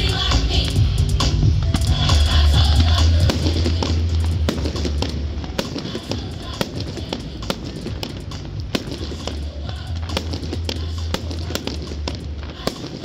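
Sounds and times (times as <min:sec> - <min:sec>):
loud bass-heavy music: 0:00.0 - 0:13.0
fireworks bangs and pops: 0:00.3 - 0:13.0.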